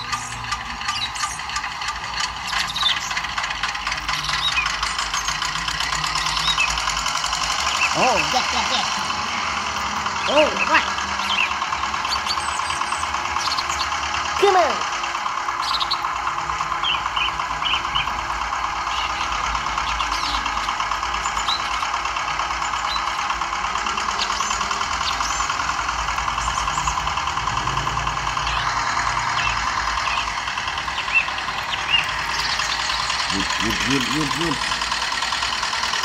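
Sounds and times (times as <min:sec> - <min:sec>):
model engine running: 0:00.0 - 0:36.0.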